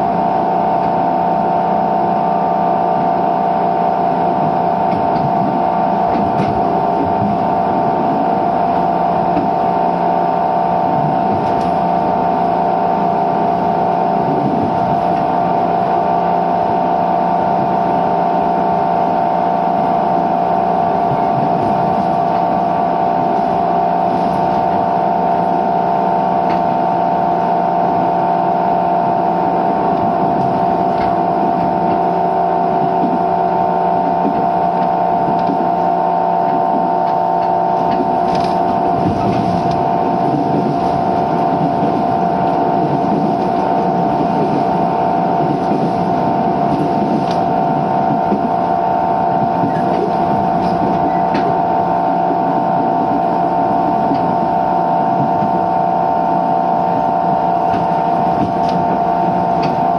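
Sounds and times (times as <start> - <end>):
motor-generator whine: 0.0 - 59.9
train running and rolling noise: 0.0 - 59.9.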